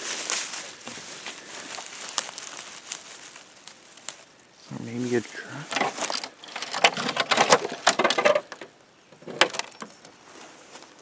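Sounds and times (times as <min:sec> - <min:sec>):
dry leaves and twigs crackling: 0:00.0 - 0:11.0.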